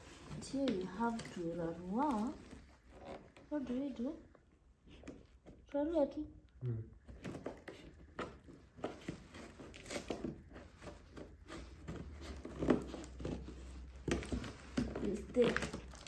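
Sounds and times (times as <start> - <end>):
cardboard and wrapping crinkling: 0.0 - 5.6, 7.0 - 16.0.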